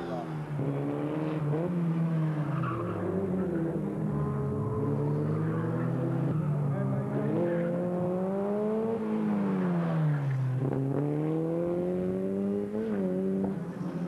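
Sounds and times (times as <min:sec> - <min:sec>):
racing car engine accelerating: 0:00.0 - 0:14.0.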